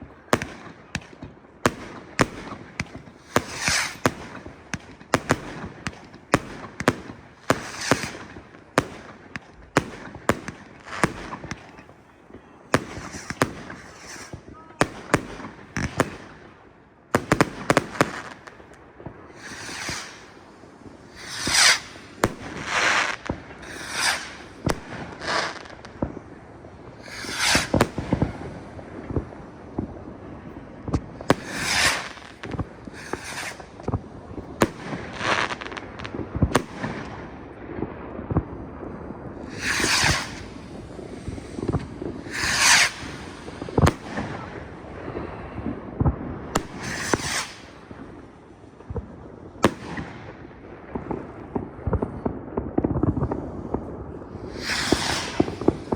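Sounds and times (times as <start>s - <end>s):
firecrackers banging: 0.0s - 16.4s, 17.2s - 50.1s, 50.9s - 55.9s
firework hissing bursts: 1.8s - 12.0s, 12.7s - 16.3s, 17.2s - 37.3s, 38.7s - 48.7s, 53.1s - 55.9s.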